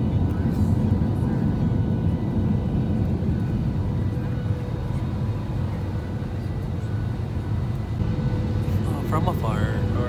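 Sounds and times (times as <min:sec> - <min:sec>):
airliner engines and airflow rumble: 0:00.0 - 0:10.0
faint whining tones: 0:00.0 - 0:10.0.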